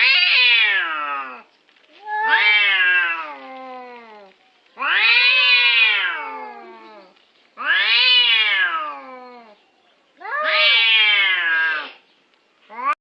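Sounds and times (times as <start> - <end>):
cat meowing: 0.0 - 1.4, 2.0 - 9.6, 10.2 - 12.0.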